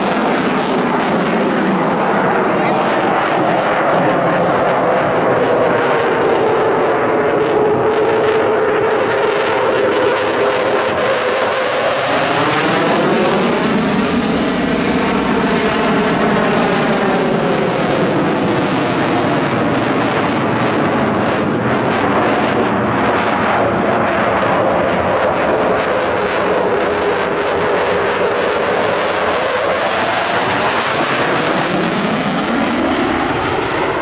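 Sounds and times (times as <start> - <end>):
fighter jet flying by: 0.0 - 34.0.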